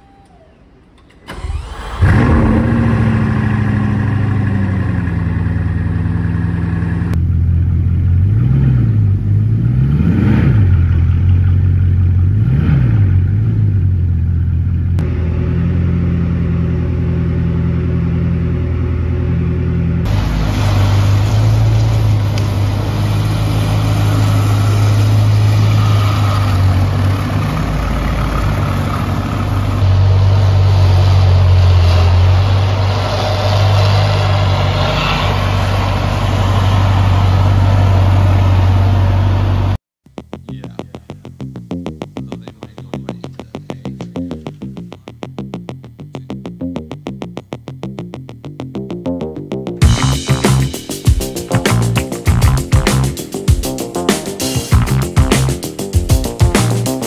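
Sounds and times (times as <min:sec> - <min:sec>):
car engine starting and idling: 0:00.0 - 0:39.8, 0:49.8 - 0:57.0
engine throttle blips: 0:00.0 - 0:48.4, 0:49.0 - 0:57.0.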